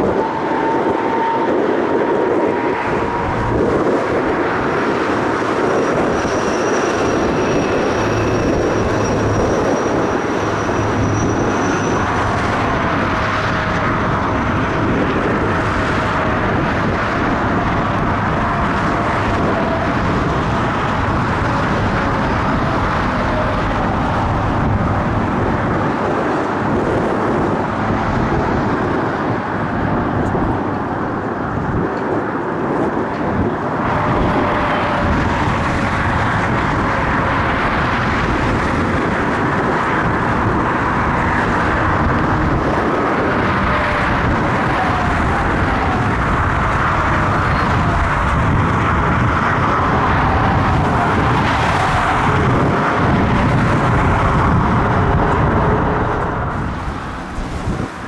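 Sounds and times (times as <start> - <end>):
jet engines rushing: 0.0 - 58.0
turbine whine: 0.0 - 58.0.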